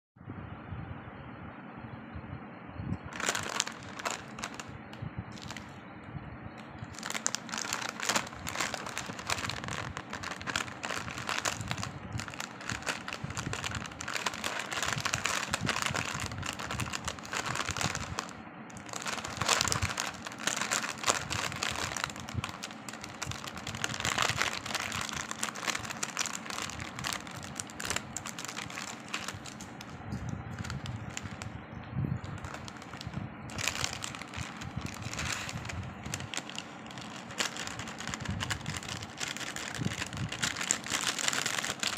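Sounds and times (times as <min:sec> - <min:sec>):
plastic snack packets crinkling: 0:03.1 - 0:04.7, 0:05.4 - 0:05.7, 0:06.6 - 0:31.5, 0:32.2 - 0:41.9.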